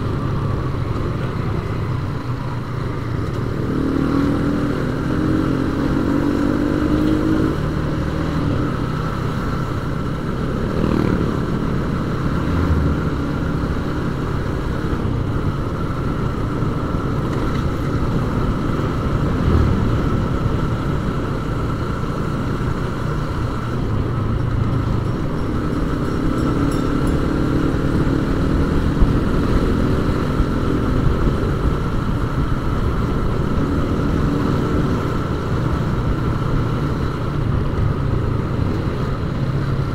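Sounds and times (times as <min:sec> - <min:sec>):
road and wind rumble: 0:00.0 - 0:39.9
motorcycle engine running: 0:07.8 - 0:39.9.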